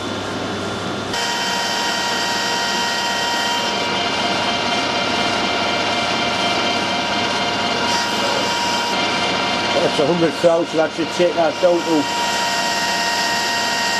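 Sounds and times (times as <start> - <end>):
metal lathe whine: 0.0 - 13.9.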